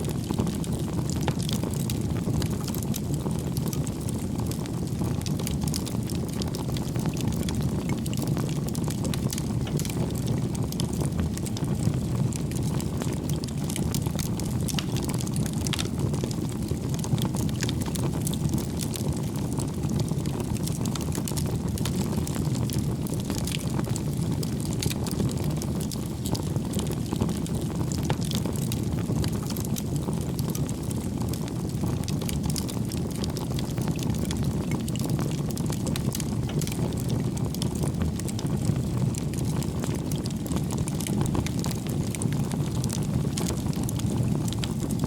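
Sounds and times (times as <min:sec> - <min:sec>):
fire flames rumbling: 0:00.0 - 0:45.0.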